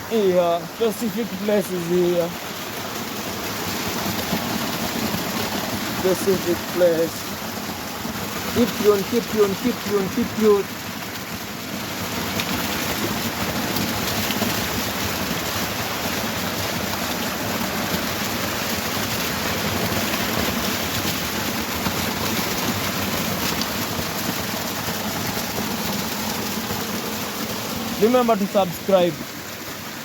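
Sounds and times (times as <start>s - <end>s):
stream running: 0.0s - 30.0s
waterfall rushing: 0.0s - 30.0s.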